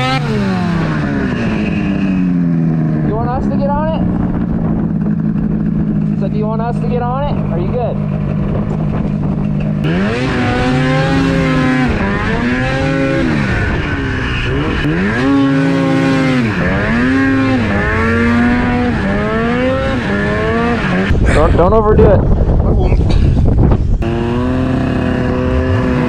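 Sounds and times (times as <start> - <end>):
snowmobile engine accelerating: 0.0 - 22.1, 24.0 - 26.0.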